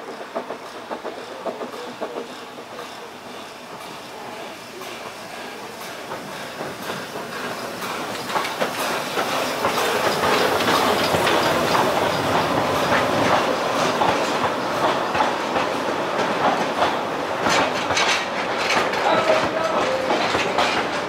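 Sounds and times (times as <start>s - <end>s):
train wheels clicking over rail joints: 0.0s - 21.0s.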